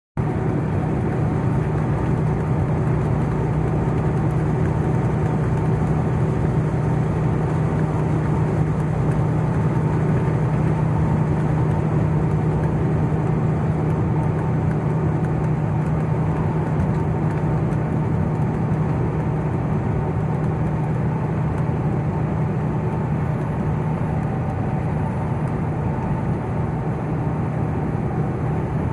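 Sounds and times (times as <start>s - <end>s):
road and wind noise: 0.2s - 28.9s
truck engine drone: 0.2s - 28.9s.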